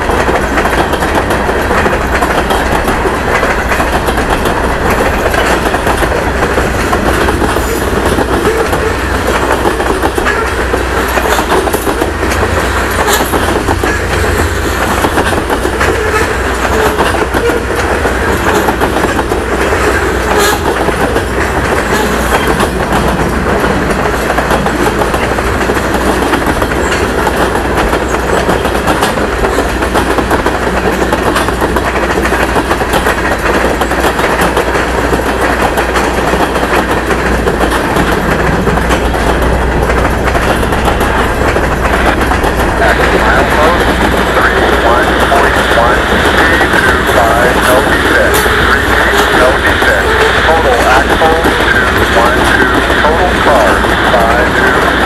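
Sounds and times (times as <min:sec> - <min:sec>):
freight train cars rumbling: 0:00.0 - 0:55.0
wheels clacking on rail joints: 0:00.0 - 0:55.0.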